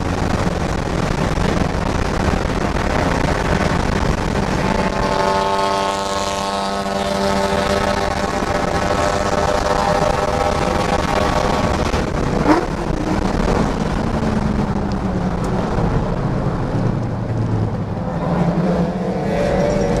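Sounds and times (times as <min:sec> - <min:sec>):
car engine running: 0:00.0 - 0:20.0
road noise: 0:00.0 - 0:20.0
supercharger whine: 0:00.0 - 0:20.0.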